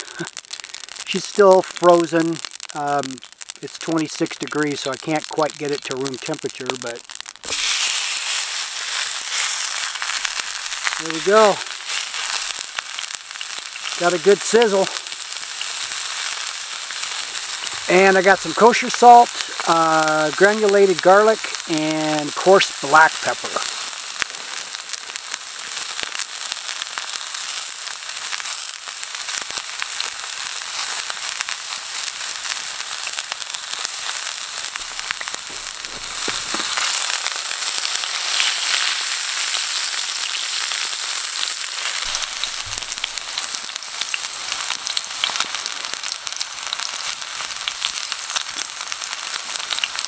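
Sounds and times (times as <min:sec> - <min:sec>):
steak sizzling in a pan: 0:00.0 - 0:50.0.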